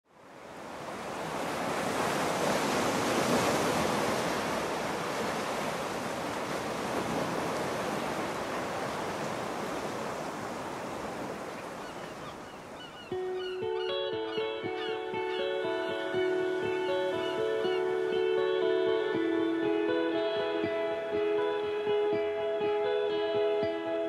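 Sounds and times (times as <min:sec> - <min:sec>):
waves breaking: 0:00.2 - 0:23.8.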